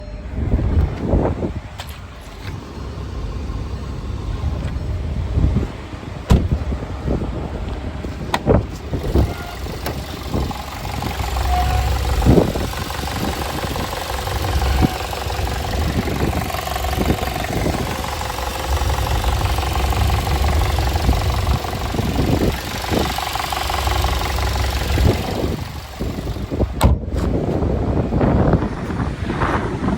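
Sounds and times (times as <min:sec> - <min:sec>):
car engine running: 0:00.3 - 0:29.9
engine knocks and rattles: 0:00.3 - 0:29.9.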